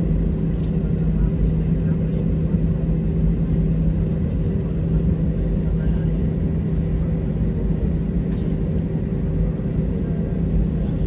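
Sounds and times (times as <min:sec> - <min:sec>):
aircraft cabin rumble and hum: 0:00.0 - 0:11.0.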